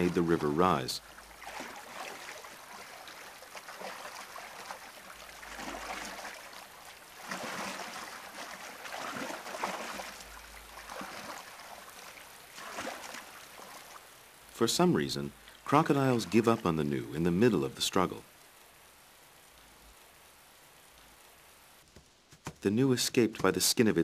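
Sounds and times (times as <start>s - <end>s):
river water splashing and churning: 0.0s - 21.8s.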